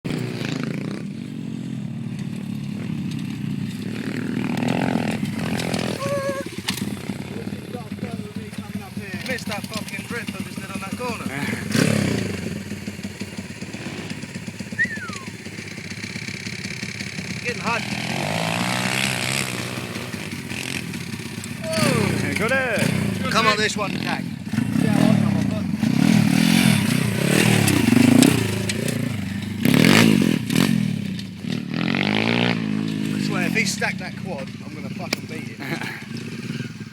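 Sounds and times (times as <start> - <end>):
small motorbike engine revving: 0.1 - 36.9.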